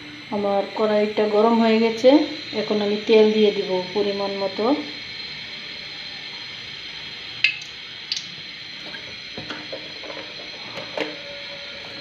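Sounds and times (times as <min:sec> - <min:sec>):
oil hissing in a hot pan: 0:00.0 - 0:12.0.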